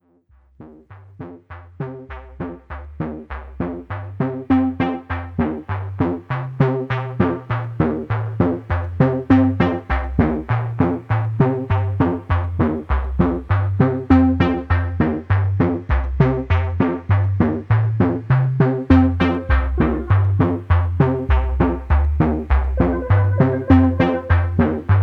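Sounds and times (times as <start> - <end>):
electronic music with bass: 0.6 - 25.0.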